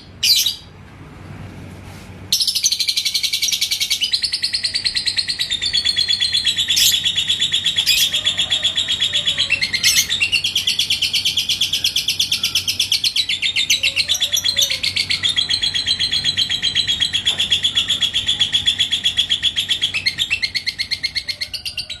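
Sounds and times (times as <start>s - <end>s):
lovebird chattering trill: 0.2s - 0.7s, 2.4s - 22.0s.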